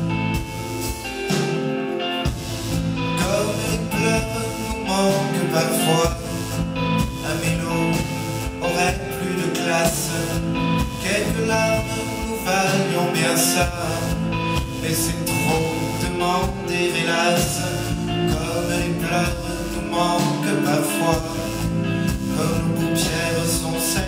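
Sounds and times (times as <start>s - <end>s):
electric bass: 0.0s - 24.0s
live band playing pop song: 0.0s - 24.0s
man singing: 3.1s - 24.0s.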